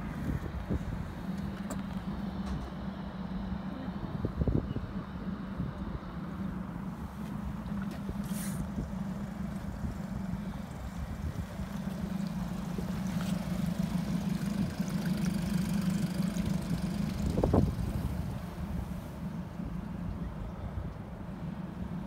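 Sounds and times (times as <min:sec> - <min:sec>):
outboard motors idling: 0:00.0 - 0:22.0.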